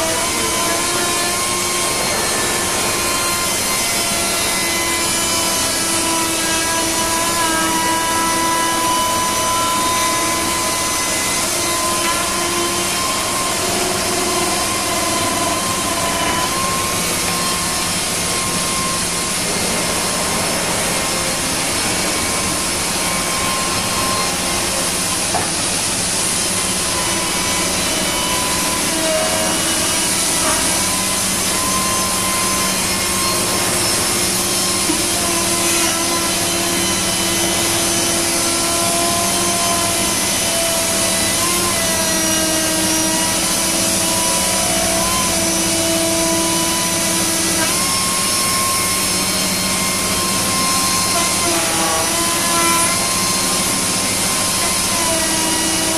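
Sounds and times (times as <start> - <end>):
router spindle whining: 0.0 - 55.9.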